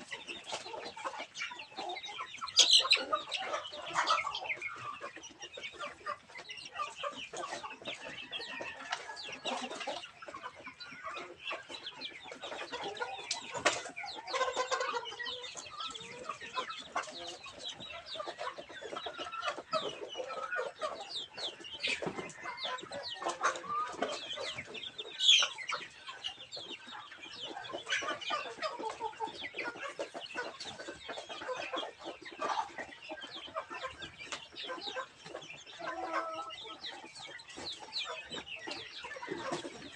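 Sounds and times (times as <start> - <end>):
chickens clucking and chirping: 0.0 - 39.9.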